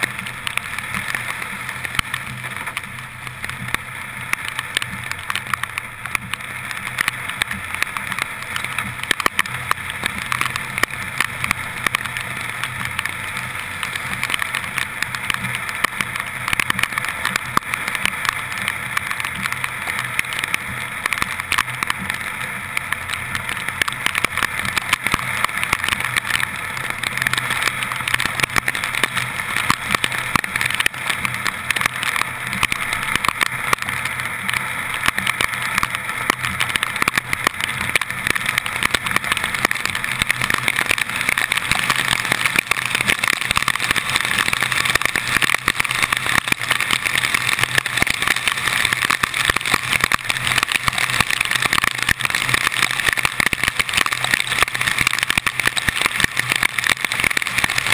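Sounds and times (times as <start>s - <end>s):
engine and tyres humming: 0.0s - 57.9s
raindrops pattering on camera: 0.0s - 57.9s
rushing hiss of spray and rain: 0.0s - 57.9s.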